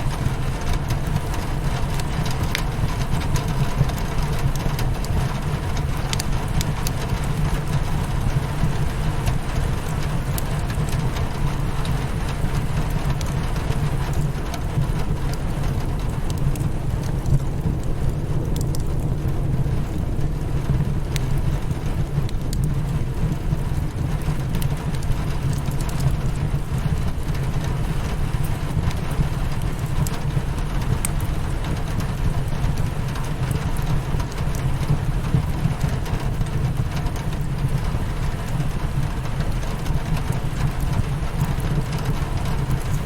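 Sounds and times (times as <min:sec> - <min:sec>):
rain hitting a window: 0:00.0 - 0:43.0
wood fire crackling: 0:00.0 - 0:43.0.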